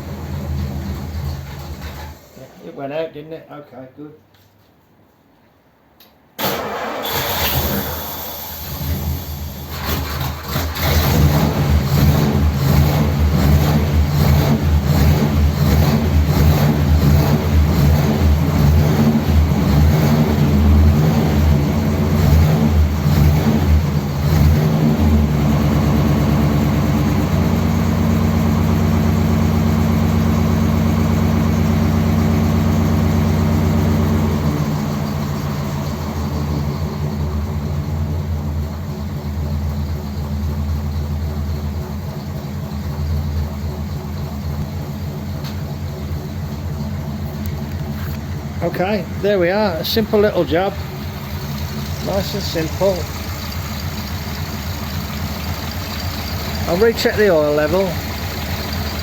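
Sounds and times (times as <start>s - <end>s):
car engine cranking and idling: 0.0s - 2.7s, 6.4s - 59.0s.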